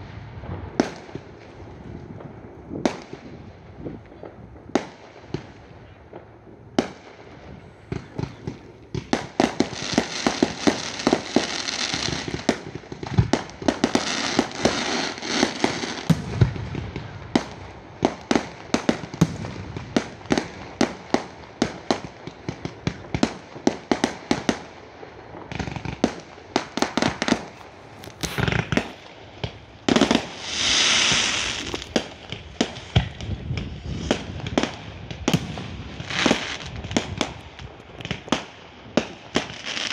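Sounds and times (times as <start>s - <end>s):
fireworks bangs and crackles: 0.0s - 39.9s
fireworks crackling hiss: 0.0s - 39.9s.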